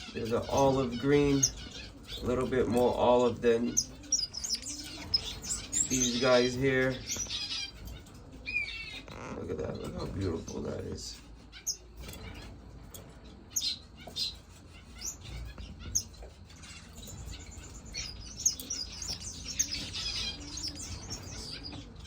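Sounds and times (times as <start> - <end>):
finches chirping and twittering: 0.0 - 22.0.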